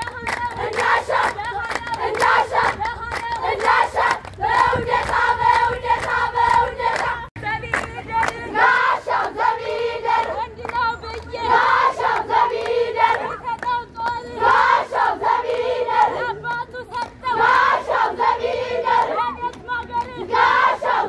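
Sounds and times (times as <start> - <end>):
girls singing and calling out: 0.0 - 4.6, 5.5 - 21.0.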